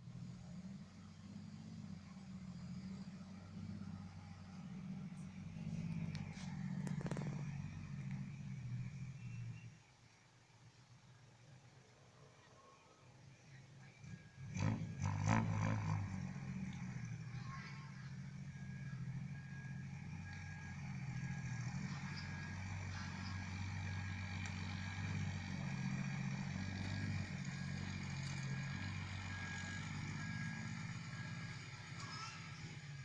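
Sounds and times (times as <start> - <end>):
dump truck diesel engine droning: 0.0 - 33.0.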